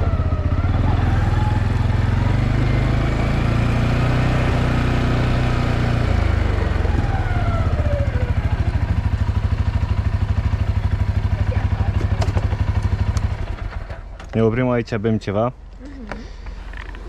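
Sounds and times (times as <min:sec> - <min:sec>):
atv engine idling: 0:00.0 - 0:14.8, 0:15.5 - 0:17.0.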